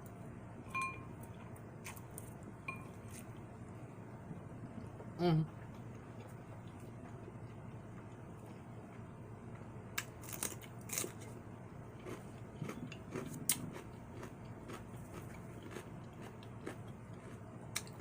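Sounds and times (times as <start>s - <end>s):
soft chewing: 0.8s - 18.0s.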